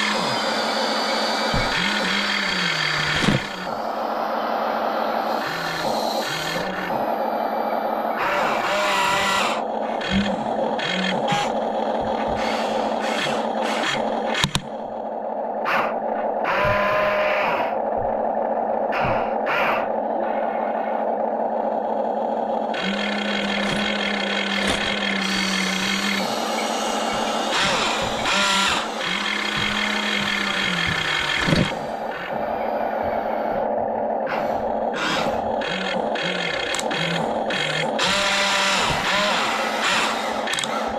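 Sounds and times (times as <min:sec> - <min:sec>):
toy excavator motors whining: 0:00.0 - 0:40.9.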